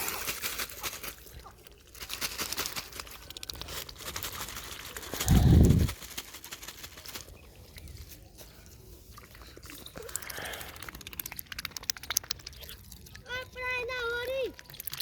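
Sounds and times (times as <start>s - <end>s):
ducks pecking grain: 0.0s - 15.0s.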